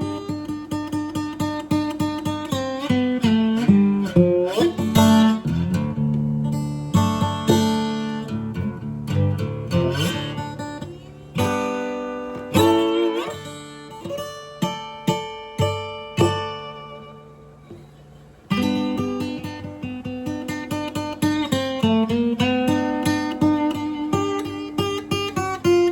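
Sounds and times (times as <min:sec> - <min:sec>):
acoustic guitar playing: 0:00.0 - 0:25.9.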